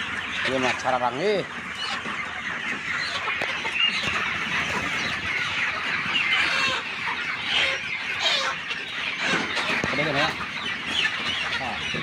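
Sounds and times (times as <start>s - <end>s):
chickens clucking and calling: 0.0s - 12.0s.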